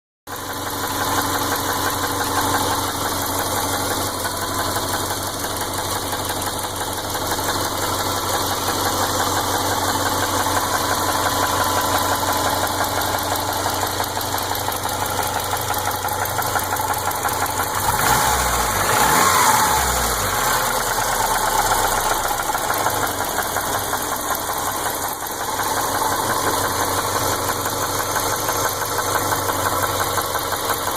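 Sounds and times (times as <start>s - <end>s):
car engine idling: 0.3s - 30.9s
rapid constant engine ticking: 0.3s - 30.9s.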